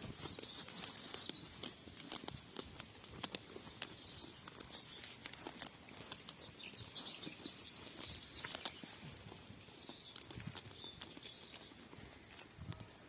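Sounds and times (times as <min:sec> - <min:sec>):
faint birds chirping: 0:00.0 - 0:02.5, 0:03.3 - 0:12.4.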